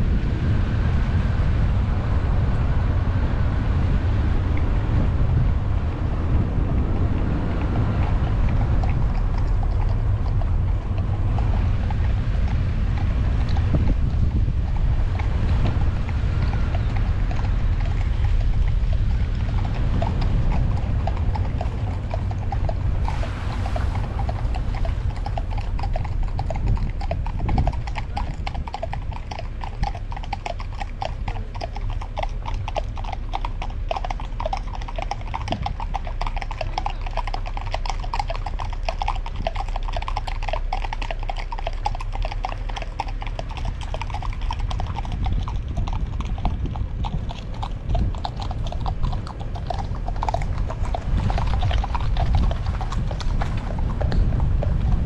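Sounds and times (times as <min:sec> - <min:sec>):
car and road rumble: 0:00.0 - 0:55.0
horse hooves clip-clopping: 0:03.7 - 0:55.0.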